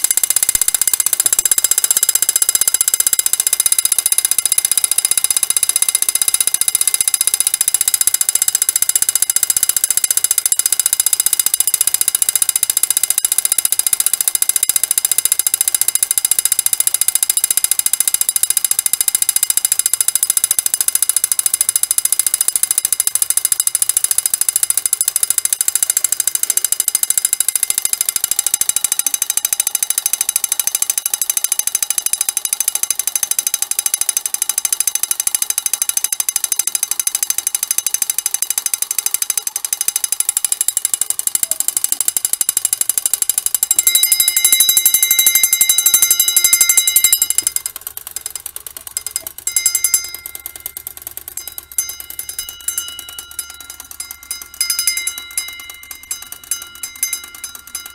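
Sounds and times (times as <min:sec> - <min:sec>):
alarm bell ringing: 0:00.0 - 0:42.0, 0:43.4 - 0:47.7, 0:48.9 - 0:57.9.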